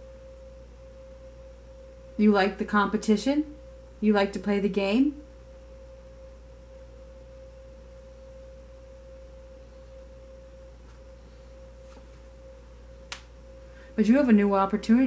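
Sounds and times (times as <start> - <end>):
faint low hum: 0.0 - 15.0
steady pure tone: 0.0 - 15.0.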